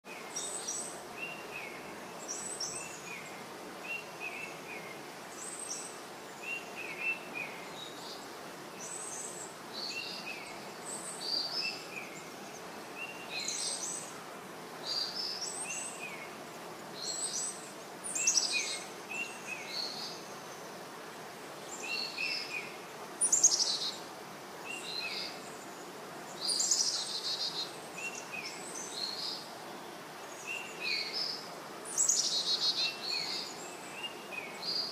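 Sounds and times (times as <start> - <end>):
steady background hiss: 0.0 - 34.9.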